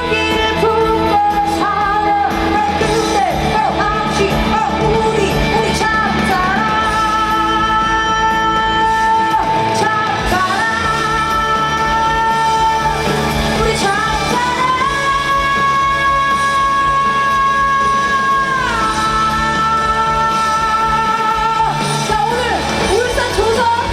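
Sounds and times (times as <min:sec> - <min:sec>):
band playing: 0:00.0 - 0:23.9
woman singing with vibrato: 0:00.0 - 0:23.9.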